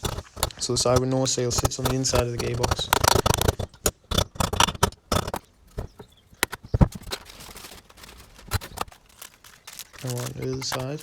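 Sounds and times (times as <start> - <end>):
metal parts clicking and knocking: 0.0 - 11.0.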